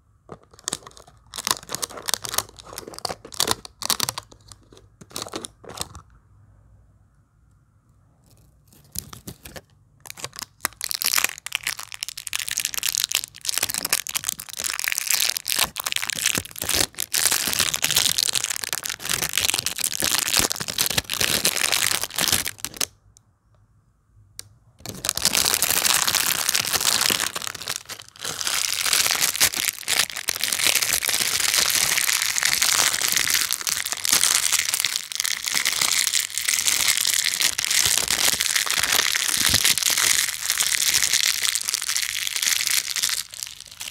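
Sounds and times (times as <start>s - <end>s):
plastic shrink wrap crinkling: 0.3s - 6.0s, 8.3s - 22.9s, 24.8s - 43.9s.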